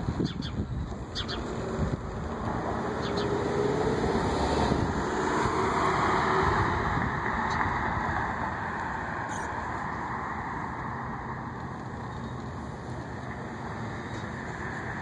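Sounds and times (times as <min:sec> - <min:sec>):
vehicle passing on street: 0:00.0 - 0:15.0.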